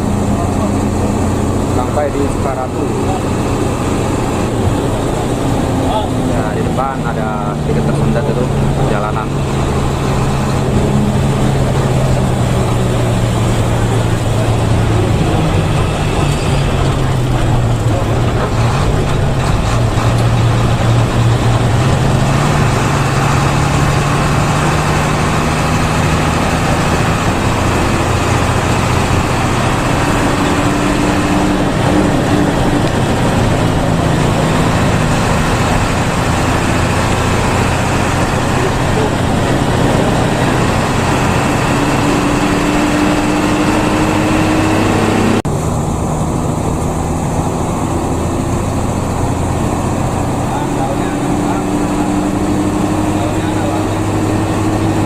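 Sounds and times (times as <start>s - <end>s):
bus engine drone: 0.0s - 55.0s
tyre and road noise: 0.0s - 55.0s.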